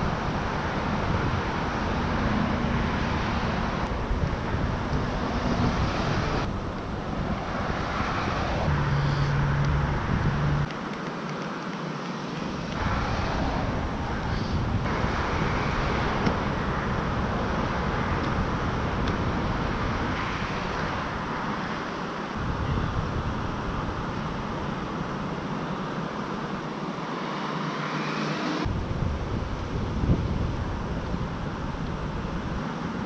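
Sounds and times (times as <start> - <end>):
wind on microphone: 0.0 - 10.7, 12.4 - 27.0, 28.6 - 33.0
road traffic: 0.0 - 33.0.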